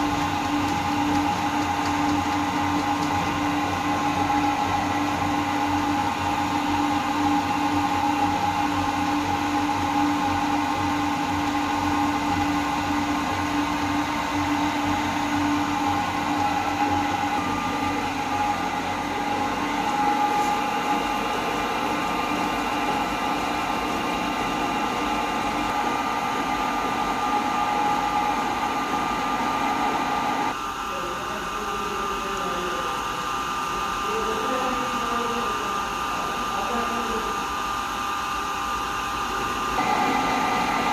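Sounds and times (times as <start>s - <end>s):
milling machine whine: 0.0s - 40.9s.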